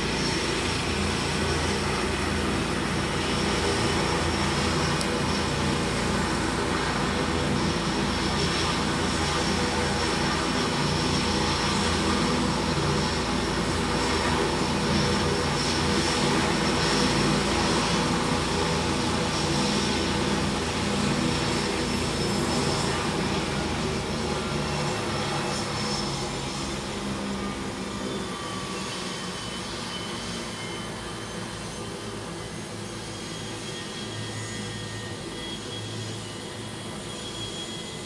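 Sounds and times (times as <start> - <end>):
helicopter turbine and rotor: 0.0 - 38.0.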